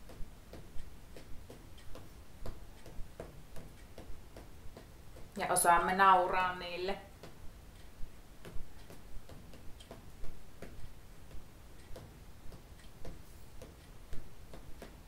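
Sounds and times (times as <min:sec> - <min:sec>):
faint room hum: 0:00.0 - 0:15.0
light regular ticking: 0:00.0 - 0:15.0.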